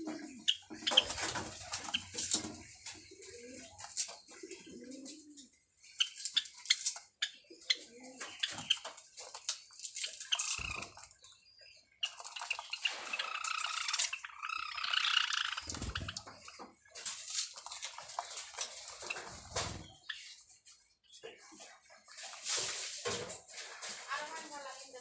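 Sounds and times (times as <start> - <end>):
sparrows chirping and clicking: 0.0 - 22.9.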